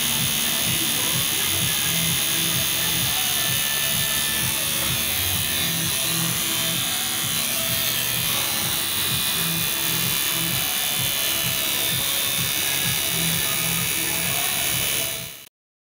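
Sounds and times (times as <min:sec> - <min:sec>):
background music: 0:00.0 - 0:15.5
tattoo machine buzzing: 0:00.0 - 0:15.5.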